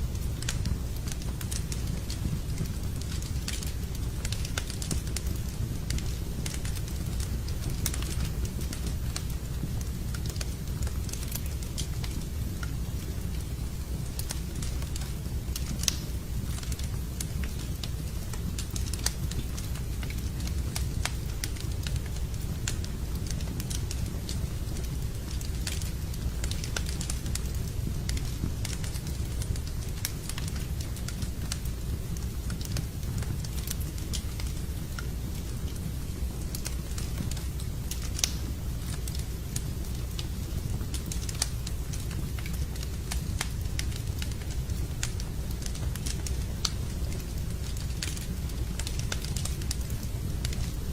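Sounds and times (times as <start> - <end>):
campfire crackling and popping: 0.0 - 50.9.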